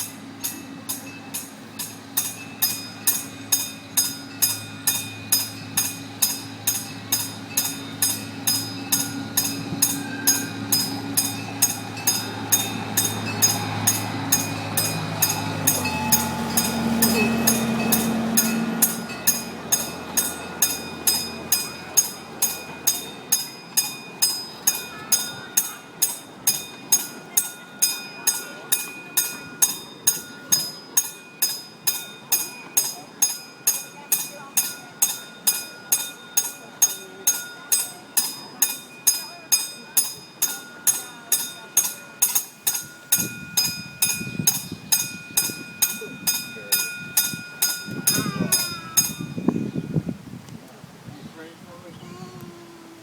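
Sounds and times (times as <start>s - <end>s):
crossing signal bell ringing: 0.0s - 50.2s
train engine drone: 0.0s - 51.0s.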